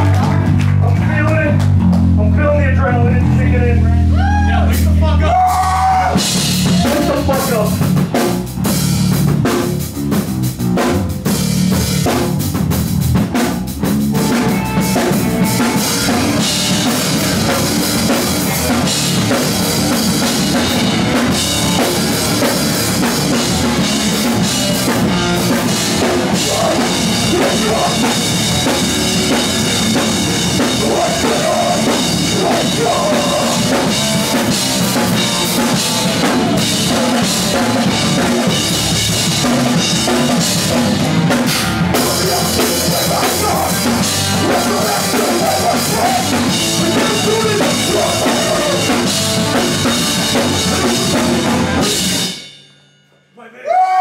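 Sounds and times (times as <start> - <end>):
rock band playing loud: 0.0 - 52.6.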